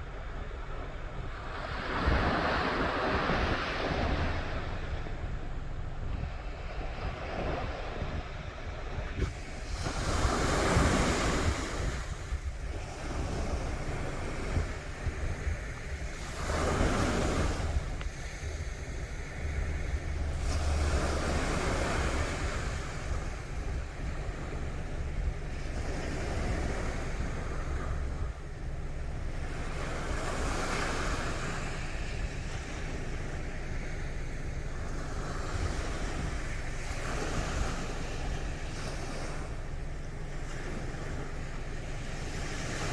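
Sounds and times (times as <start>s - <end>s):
sea waves breaking on shore: 0.0s - 42.9s
wind rumbling on microphone: 0.0s - 42.9s.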